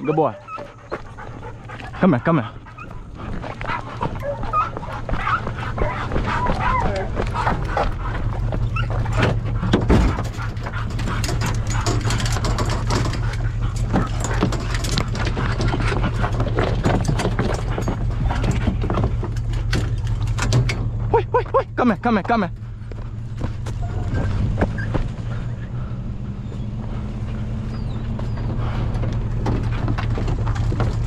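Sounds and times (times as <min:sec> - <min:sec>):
dogs whining and yipping: 0:00.0 - 0:21.8, 0:23.5 - 0:31.0
low vehicle hum: 0:00.0 - 0:31.0
scuffs and knocks of movement: 0:00.0 - 0:31.0.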